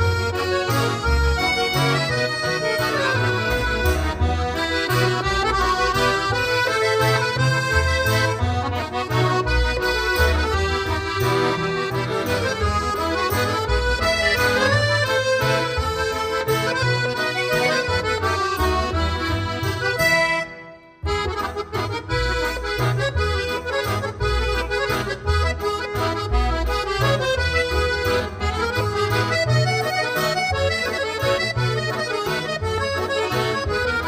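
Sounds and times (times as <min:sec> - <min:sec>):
instrumental music with bass beat: 0:00.0 - 0:34.0.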